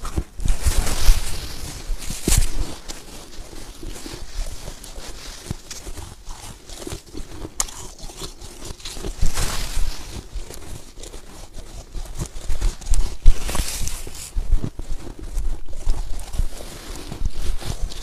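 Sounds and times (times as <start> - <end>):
snow being chewed: 0.0 - 18.0.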